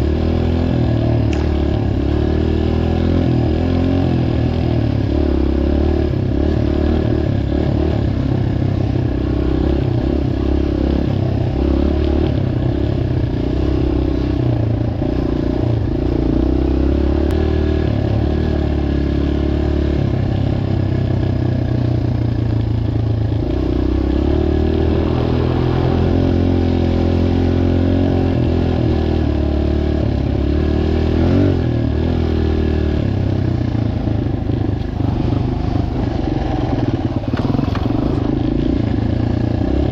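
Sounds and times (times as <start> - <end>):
dirt bike engine revving: 0.0 - 20.8, 23.4 - 39.9.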